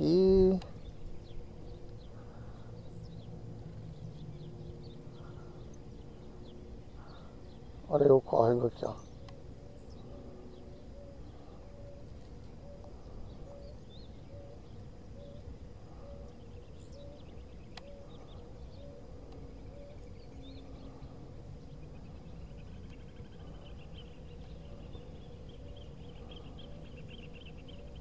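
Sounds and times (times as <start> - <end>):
birdsong: 0.0 - 28.0
low steady rumble: 0.0 - 28.0.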